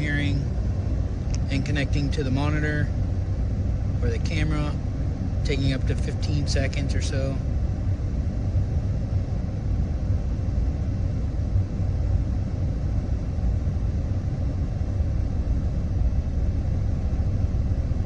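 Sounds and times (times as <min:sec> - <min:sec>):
vehicle rumble from inside cab: 0:00.0 - 0:18.0.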